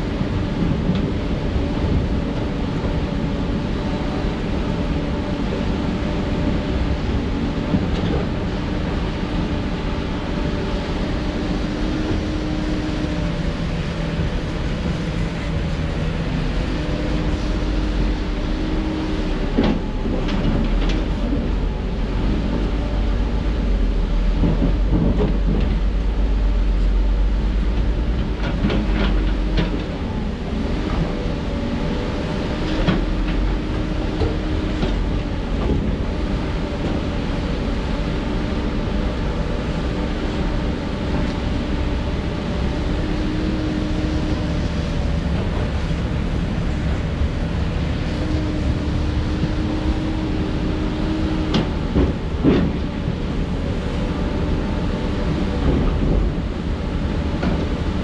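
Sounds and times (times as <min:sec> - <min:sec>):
diesel machinery droning: 0:00.0 - 0:58.0.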